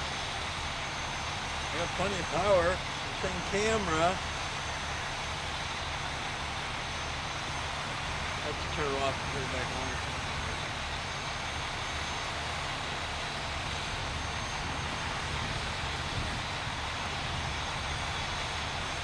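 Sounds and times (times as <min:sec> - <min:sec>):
engine-like rumble: 0:00.0 - 0:19.0.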